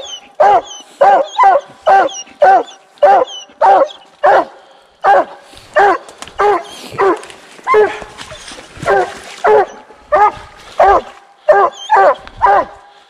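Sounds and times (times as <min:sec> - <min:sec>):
dog barking loudly: 0:00.0 - 0:08.2, 0:08.8 - 0:12.8.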